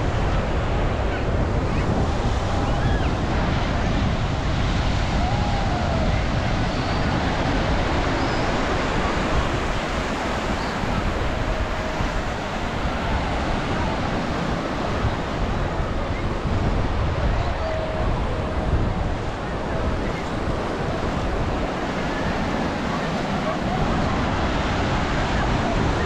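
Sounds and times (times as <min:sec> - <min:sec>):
ocean surf on sandy beach: 0:00.0 - 0:26.0
wind buffeting microphone: 0:00.0 - 0:26.0.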